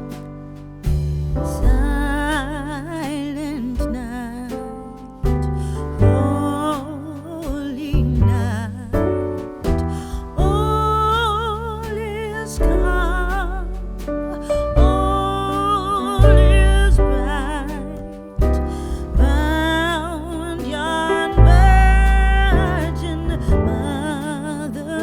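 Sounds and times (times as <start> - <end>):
deep bass: 0.0 - 25.0.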